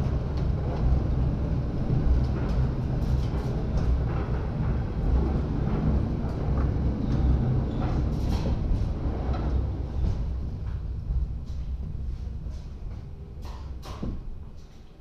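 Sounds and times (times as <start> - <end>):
railway car rumbling: 0.0 - 14.7.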